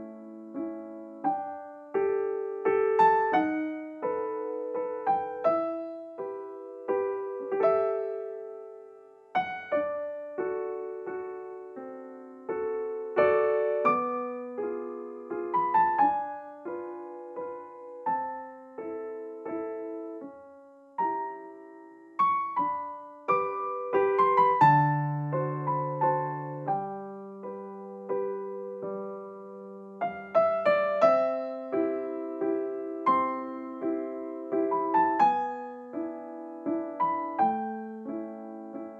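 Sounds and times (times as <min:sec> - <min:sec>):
slow piano melody: 0:00.0 - 0:38.9.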